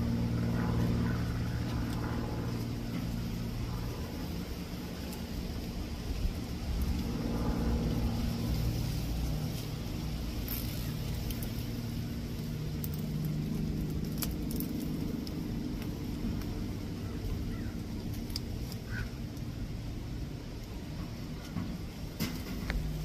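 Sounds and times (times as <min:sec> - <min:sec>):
low rumble of distant traffic: 0:00.0 - 0:23.0.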